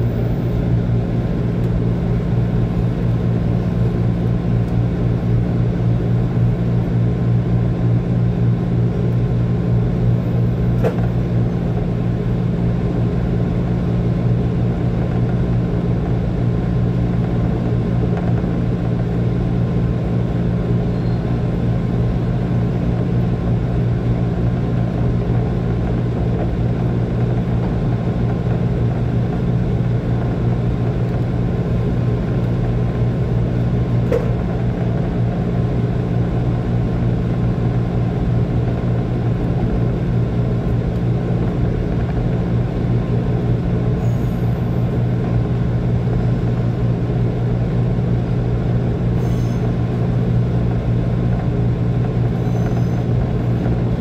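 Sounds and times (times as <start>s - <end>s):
electric train running hum: 0.0s - 54.0s.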